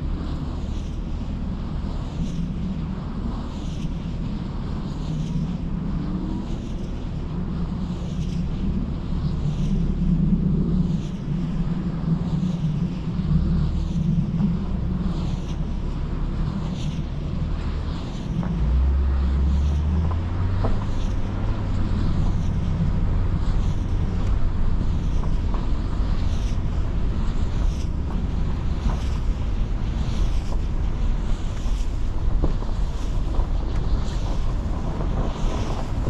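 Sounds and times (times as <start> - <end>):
road noise: 0.0 - 36.0
wind on microphone: 0.0 - 36.0
car engine: 6.0 - 36.0.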